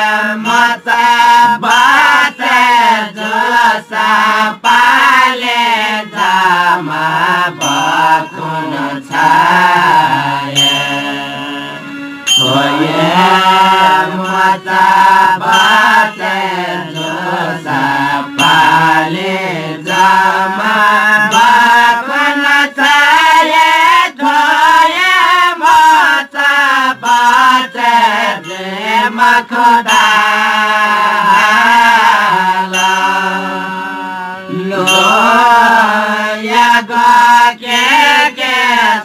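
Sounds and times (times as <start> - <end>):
small cymbals: 0.0 - 38.9
harmonium: 0.0 - 39.0
men chanting a folk song: 0.0 - 39.0.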